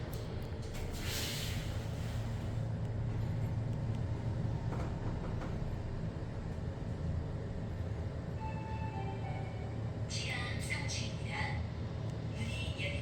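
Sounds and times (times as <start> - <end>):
elevator car low rumble: 0.0 - 13.0.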